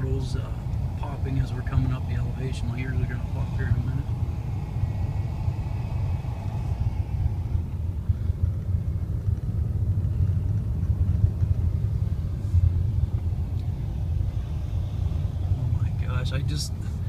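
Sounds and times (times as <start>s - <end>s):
car engine rumble from inside cabin: 0.0s - 17.0s
tyres rumbling on road: 0.0s - 17.0s.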